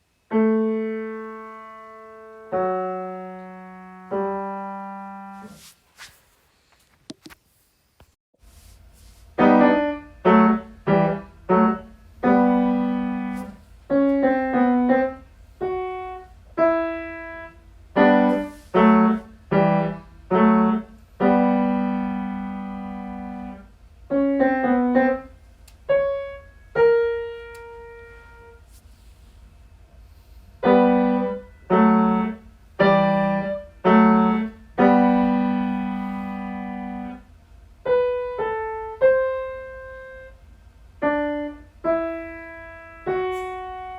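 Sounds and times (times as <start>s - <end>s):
piano chords and notes: 0.0s - 5.6s, 9.3s - 28.6s, 30.6s - 40.4s, 41.0s - 43.9s.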